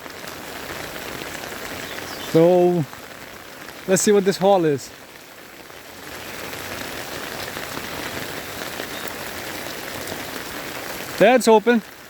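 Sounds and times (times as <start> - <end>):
rain splashing on hard surfaces: 0.0 - 12.0.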